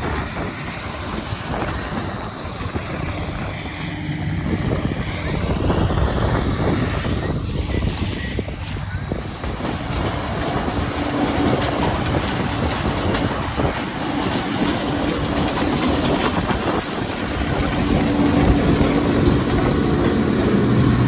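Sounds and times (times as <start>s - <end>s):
heavy farm machinery din: 0.0s - 21.0s
steady machine hum: 0.0s - 21.0s.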